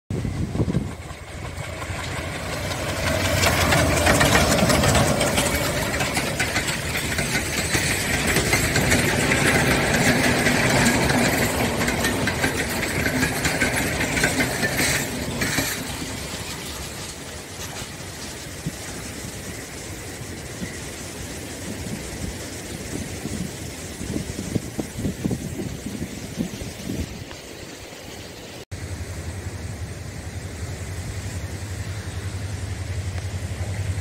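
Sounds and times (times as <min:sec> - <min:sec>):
diesel locomotive engine: 0:00.1 - 0:34.0
train wheels on rails: 0:00.1 - 0:34.0.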